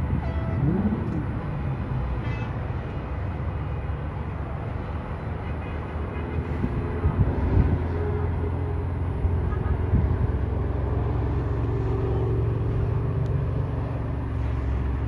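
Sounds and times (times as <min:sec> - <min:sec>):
distant highway traffic: 0:00.0 - 0:15.0.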